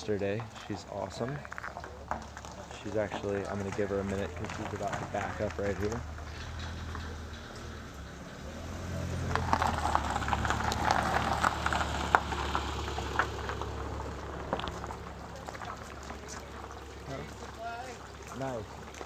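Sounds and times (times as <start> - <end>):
crackling under wheels: 0.0 - 19.0
vehicle engine backing up: 0.0 - 19.0.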